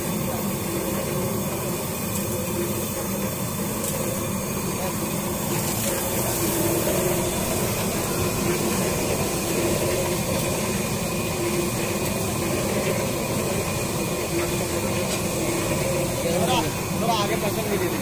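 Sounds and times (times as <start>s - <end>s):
machine with rotating drum running: 0.0s - 18.0s.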